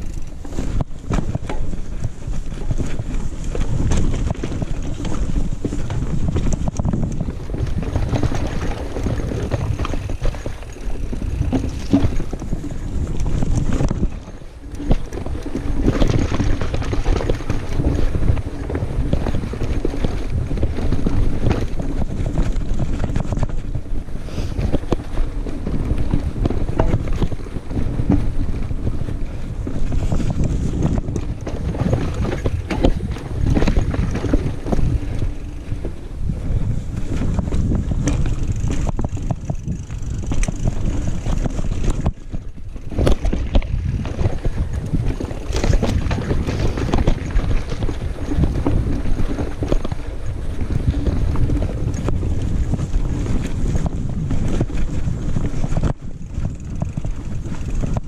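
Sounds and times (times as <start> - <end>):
mountain bike rumbling and rattling: 0.0 - 58.0
wind buffeting microphone: 0.0 - 58.0.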